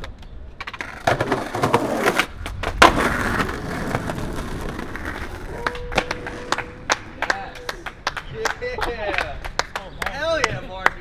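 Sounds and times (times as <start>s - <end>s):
skateboard clack: 0.0s - 11.0s
skateboard wheels rolling on concrete: 0.0s - 11.0s.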